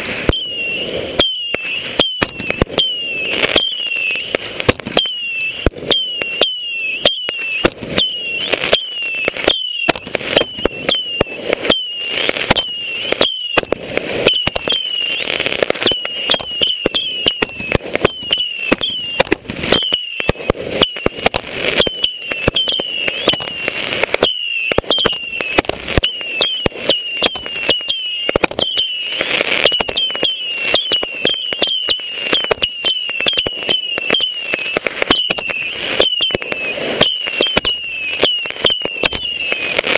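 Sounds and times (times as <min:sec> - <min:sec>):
falling firework whistle: 0:00.0 - 0:39.9
fireworks bursting: 0:00.0 - 0:39.9.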